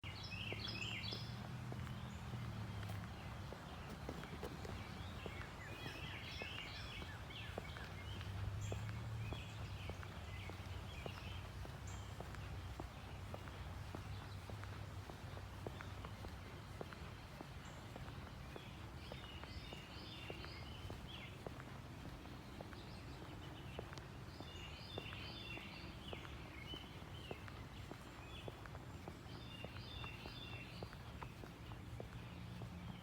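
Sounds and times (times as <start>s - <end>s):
footsteps walking: 0.0s - 33.0s
small birds chirping: 0.0s - 33.0s.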